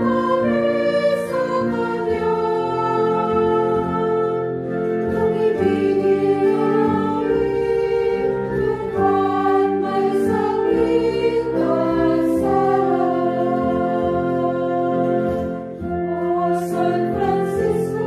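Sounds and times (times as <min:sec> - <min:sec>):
women's choir singing a hymn: 0:00.0 - 0:18.0.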